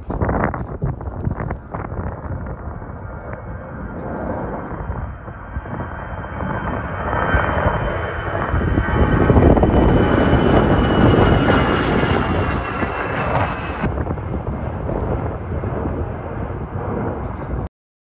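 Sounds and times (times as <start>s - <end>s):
high whine dropping in pitch: 0.0s - 17.7s
jet engine rumble: 0.0s - 17.7s.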